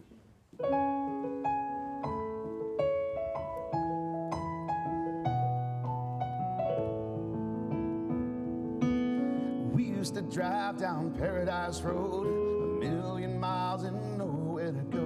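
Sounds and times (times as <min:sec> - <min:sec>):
piano chords: 0:00.5 - 0:15.0
piano bass notes: 0:00.6 - 0:15.0.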